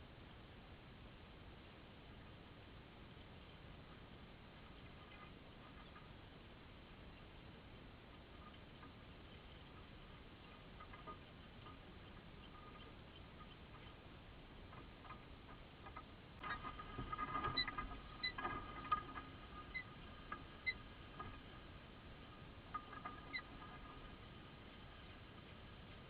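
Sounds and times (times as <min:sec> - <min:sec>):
small birds chirping: 0:04.6 - 0:26.0.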